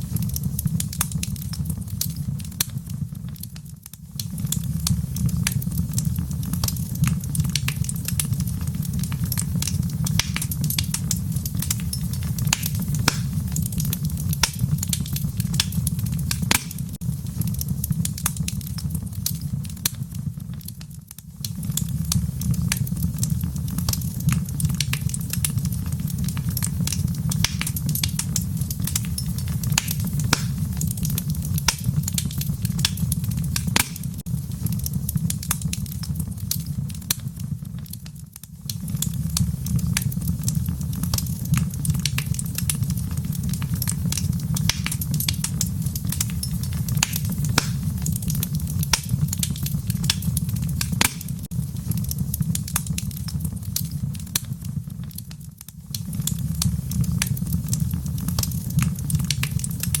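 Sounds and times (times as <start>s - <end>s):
low rumble of fire: 0.0s - 60.0s
wood fire crackling and popping: 0.0s - 60.0s.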